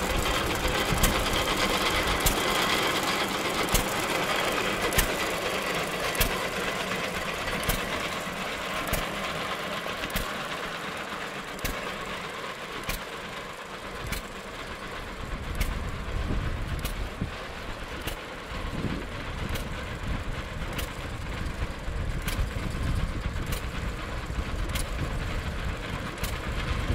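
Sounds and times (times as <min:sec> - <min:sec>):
hit-and-miss engine knocking: 0:00.0 - 0:26.9.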